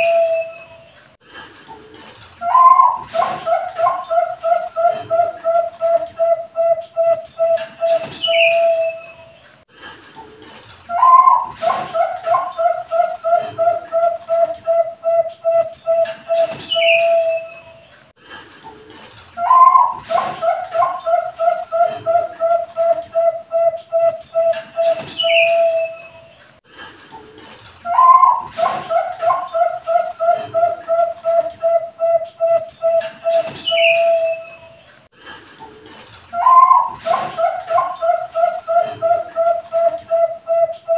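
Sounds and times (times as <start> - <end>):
dove cooing: 0.0 - 1.0, 2.4 - 9.5, 10.9 - 17.9, 19.4 - 26.4, 27.8 - 34.8, 36.3 - 40.9.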